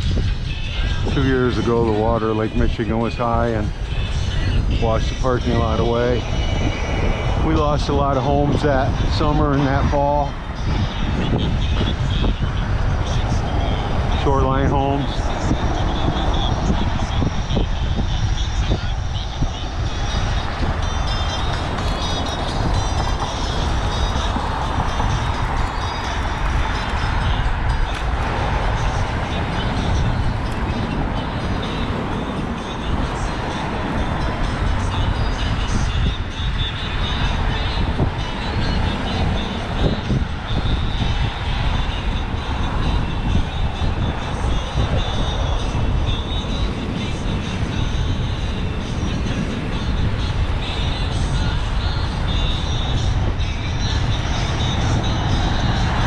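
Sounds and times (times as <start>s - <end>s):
road noise: 0.0s - 56.0s
tyres rumbling on pavement: 0.0s - 56.0s
wind buffeting microphone: 0.0s - 56.0s.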